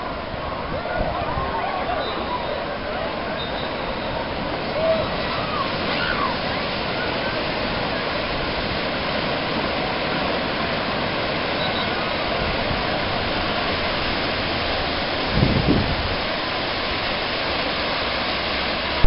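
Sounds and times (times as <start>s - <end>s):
breaking surf and churning water: 0.0s - 19.0s.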